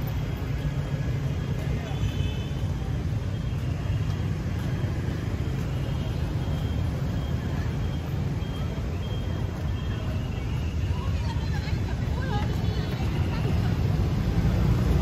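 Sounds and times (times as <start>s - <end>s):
city street traffic noise: 0.0s - 15.0s.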